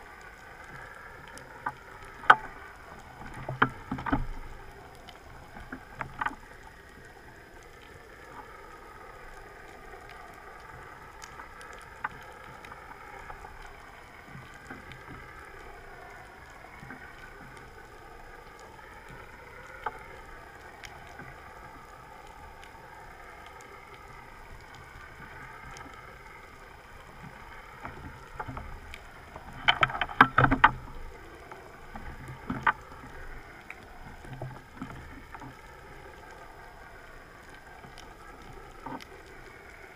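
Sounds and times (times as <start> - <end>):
underwater boat motor hum: 0.0 - 39.9.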